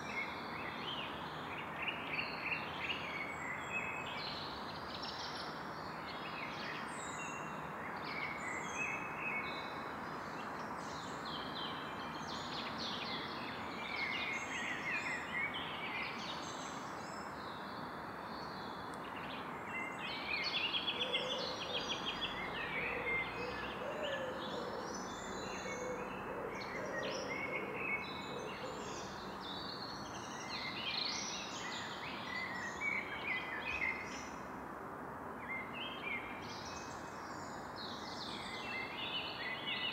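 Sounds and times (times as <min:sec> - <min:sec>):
birds calling and singing: 0:00.0 - 0:34.5, 0:35.4 - 0:39.9.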